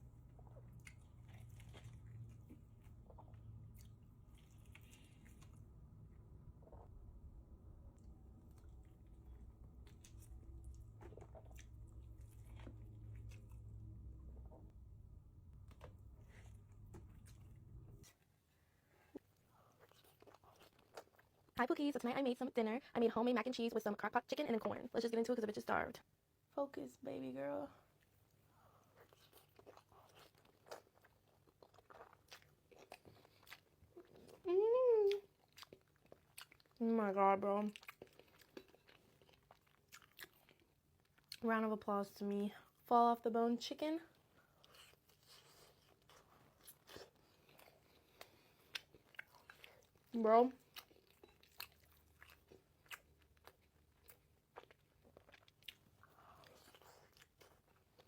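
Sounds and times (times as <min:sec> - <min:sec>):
soft chewing: 0:00.0 - 0:21.6, 0:27.8 - 0:41.6, 0:44.0 - 0:58.0.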